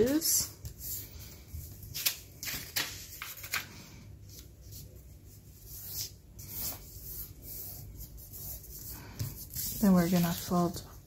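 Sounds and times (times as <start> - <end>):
paper rustling and swishing: 0.0 - 7.7, 9.0 - 10.9.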